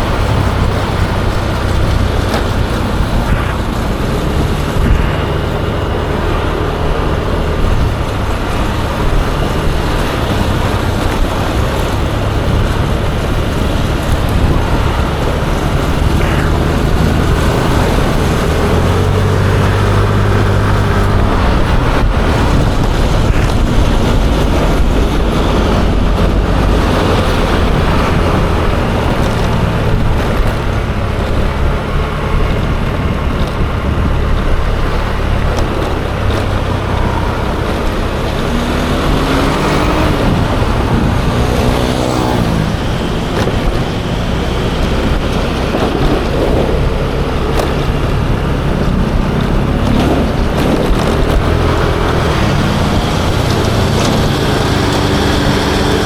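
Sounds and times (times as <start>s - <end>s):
scooter engine running: 0.0s - 56.0s
wind on microphone: 0.0s - 56.0s.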